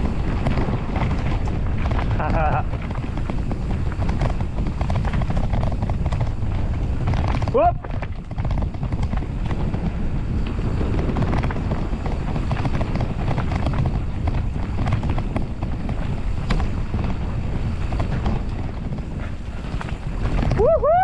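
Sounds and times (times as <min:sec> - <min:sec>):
bike clicks and knocks: 0:00.0 - 0:21.0
wind buffeting microphone: 0:00.0 - 0:21.0.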